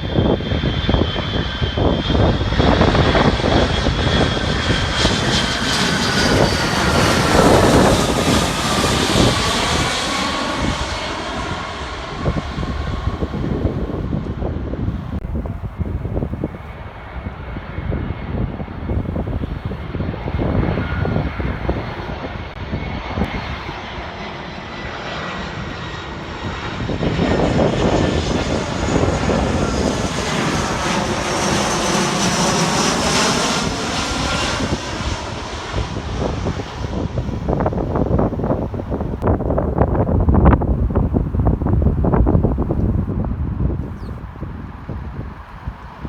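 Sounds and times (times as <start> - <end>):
airliner engine whine: 0.0 - 46.0
wind buffeting microphone: 0.0 - 46.0.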